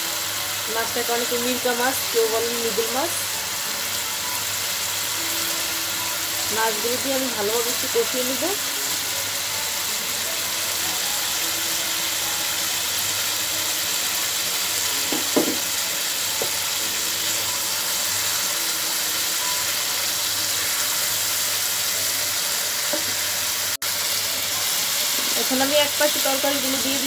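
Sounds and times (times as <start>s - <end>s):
fish sizzling in gravy: 0.0s - 27.0s.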